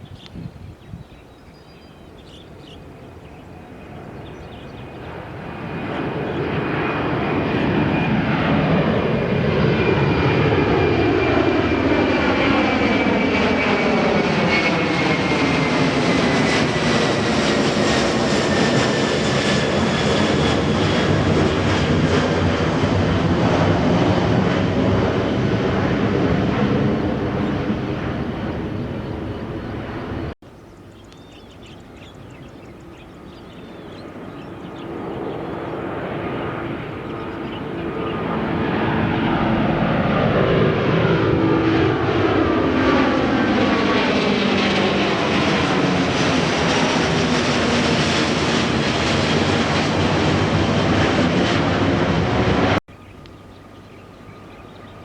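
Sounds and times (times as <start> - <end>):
jet airliner engines roaring: 0.0 - 55.0.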